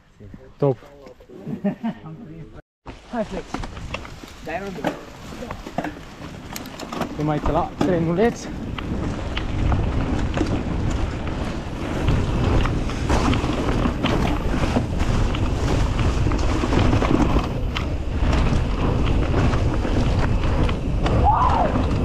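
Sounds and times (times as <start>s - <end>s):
bike knocks and rattles: 2.9s - 22.0s
tyres rumbling on dirt: 2.9s - 22.0s
wind buffeting microphone: 2.9s - 22.0s.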